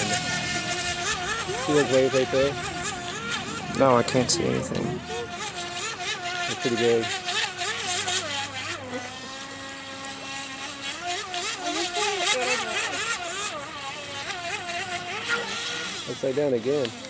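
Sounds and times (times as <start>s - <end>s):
toy boat motor whining: 0.0s - 17.0s.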